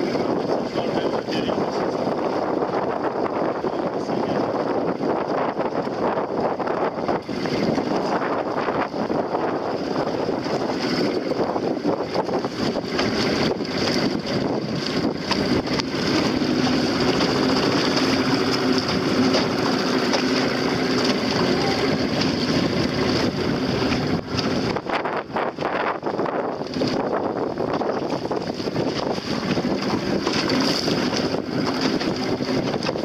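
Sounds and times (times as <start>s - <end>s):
outboard motor humming: 0.0s - 33.0s
strong wind buffeting microphone: 0.0s - 33.0s.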